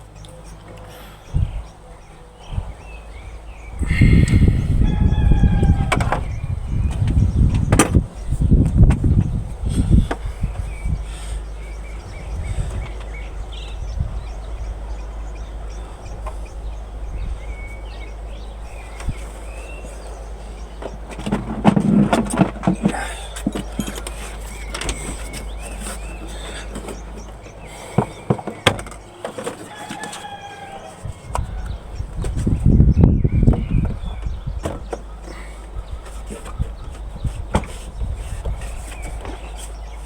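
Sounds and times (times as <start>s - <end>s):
birds calling: 0.0s - 40.0s.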